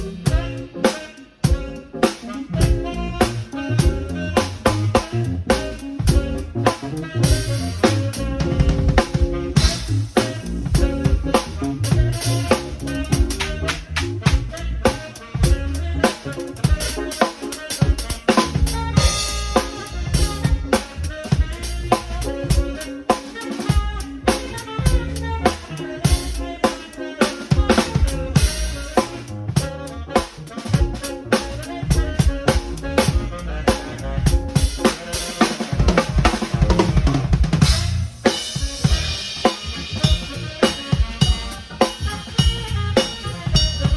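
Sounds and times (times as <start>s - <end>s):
bass drum: 0.0s - 0.7s, 1.4s - 1.8s, 2.6s - 17.1s, 17.7s - 22.9s, 23.6s - 26.6s, 27.5s - 43.9s
cymbals: 0.0s - 43.9s.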